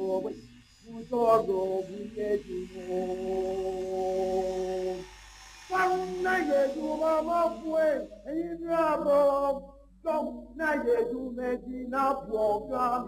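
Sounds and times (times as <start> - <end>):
voices singing unaccompanied: 0.0 - 13.0.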